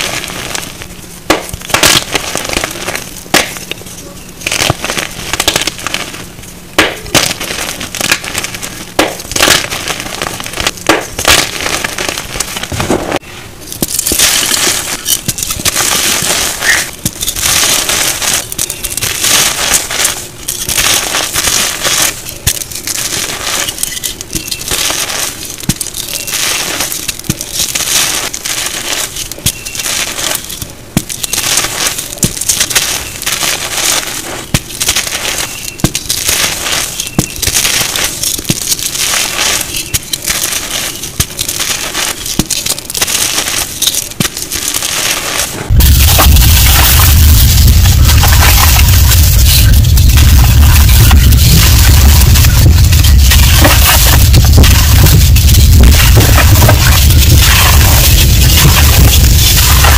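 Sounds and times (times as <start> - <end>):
hands crushing crumbly chalk: 0.0 - 59.9.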